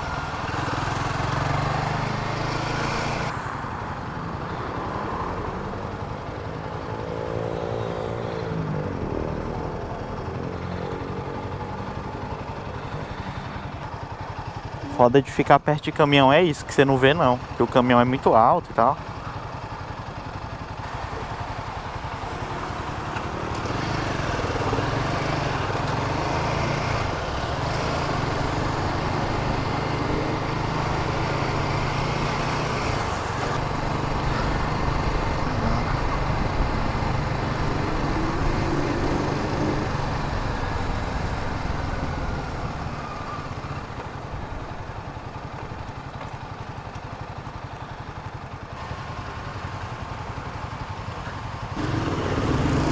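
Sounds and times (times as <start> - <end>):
motorcycle engine running: 0.0 - 52.9
wind and road noise: 0.0 - 52.9.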